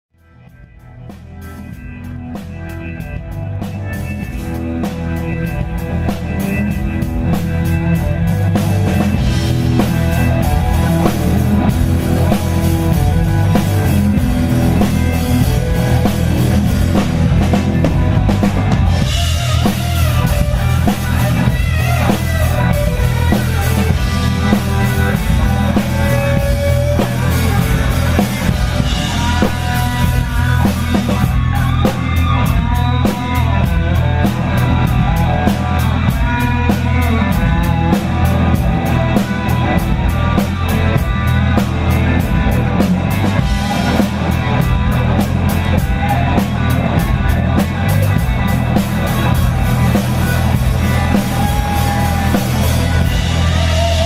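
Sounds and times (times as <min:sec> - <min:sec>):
blues-rock band playing: 0:00.2 - 0:54.0
drum kit: 0:00.2 - 0:54.0
electric guitar: 0:00.2 - 0:54.0.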